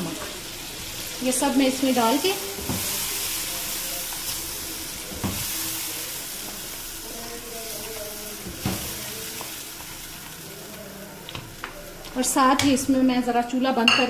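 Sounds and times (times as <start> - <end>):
meat and spices sizzling in a pan: 0.0 - 14.0.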